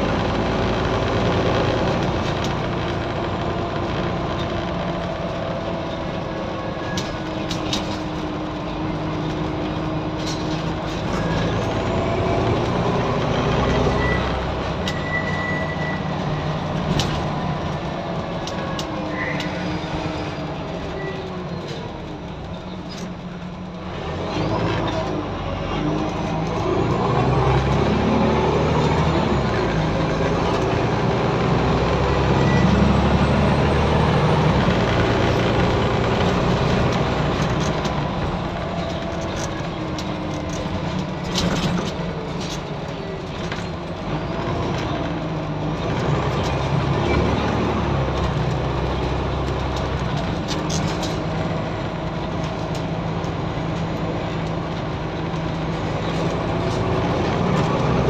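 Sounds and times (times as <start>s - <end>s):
bus diesel engine droning: 0.0s - 58.0s.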